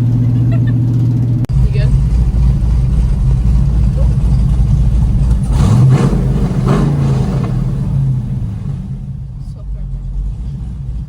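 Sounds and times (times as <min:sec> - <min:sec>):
truck engine droning in cab: 0:00.0 - 0:11.0.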